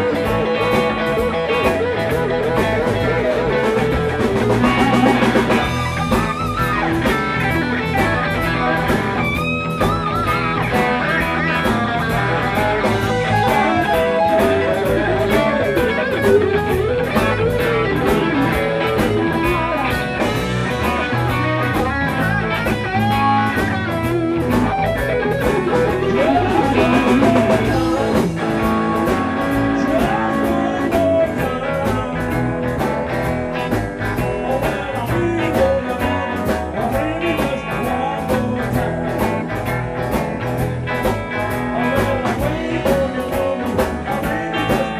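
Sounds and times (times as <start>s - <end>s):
blues-rock band playing: 0.0s - 44.9s
lead electric guitar bending notes: 0.0s - 44.9s.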